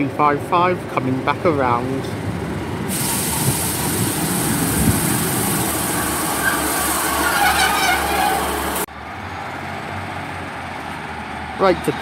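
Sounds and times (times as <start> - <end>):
train arriving: 0.0 - 9.8.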